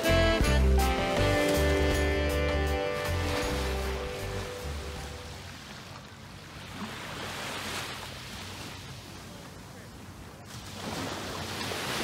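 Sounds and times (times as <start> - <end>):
small waves washing onto shore: 1.0 - 12.0.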